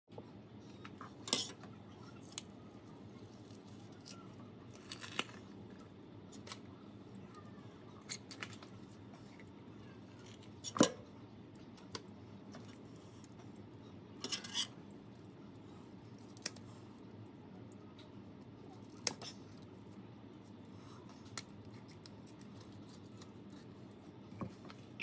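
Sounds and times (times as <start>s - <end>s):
faint steady hum: 0.1s - 25.0s.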